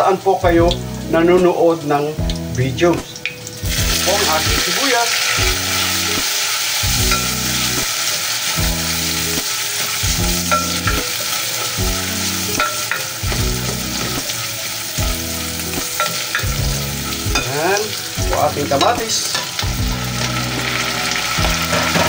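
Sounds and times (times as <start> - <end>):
onion sizzling in hot oil: 0.0 - 22.0.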